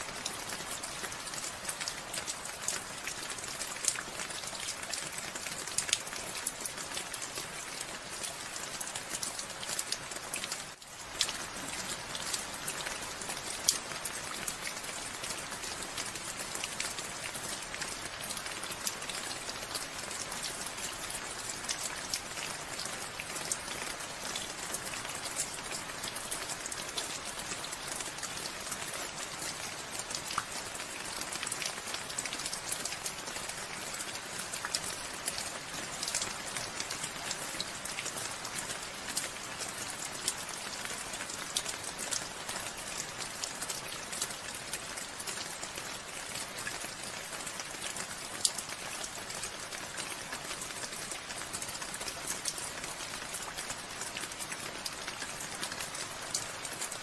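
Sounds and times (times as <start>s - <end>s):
raindrops ticking on a surface: 0.0s - 57.0s
steady rainfall: 0.0s - 57.0s.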